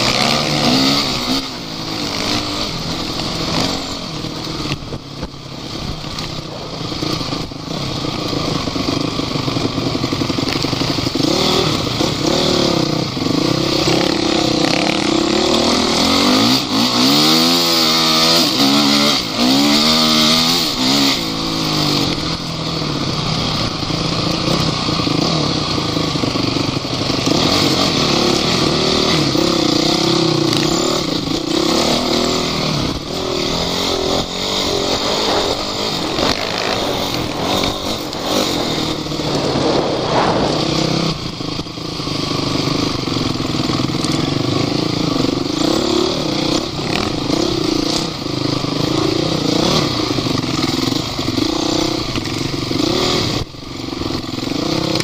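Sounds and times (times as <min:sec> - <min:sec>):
constant rushing noise: 0:00.0 - 0:55.0
off-road vehicle engine revving: 0:00.0 - 0:55.0.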